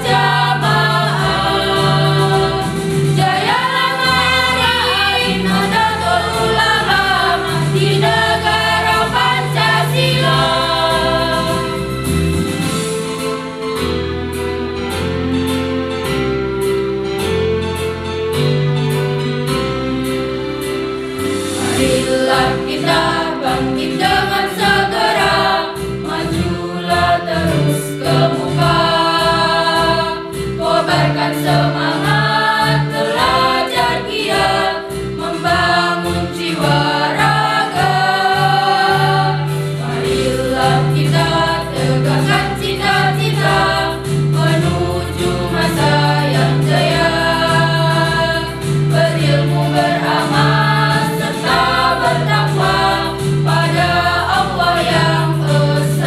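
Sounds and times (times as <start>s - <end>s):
youth choir singing a march: 0.0s - 11.9s, 21.6s - 56.0s
electronic keyboard accompaniment: 0.0s - 56.0s.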